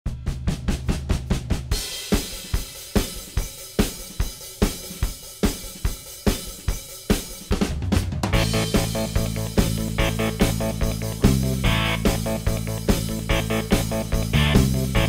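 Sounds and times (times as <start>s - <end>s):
drum kit beat: 0.1s - 15.0s.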